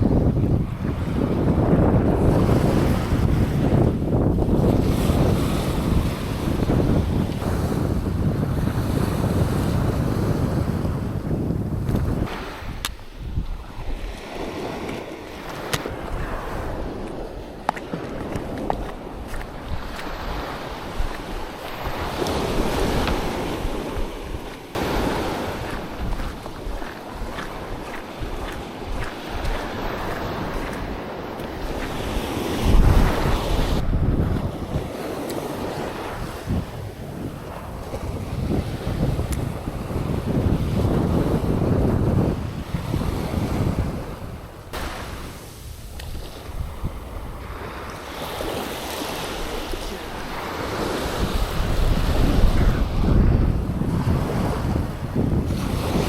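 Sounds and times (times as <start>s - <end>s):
surf breaking on beach: 0.0s - 56.0s
wind buffeting microphone: 0.0s - 56.0s.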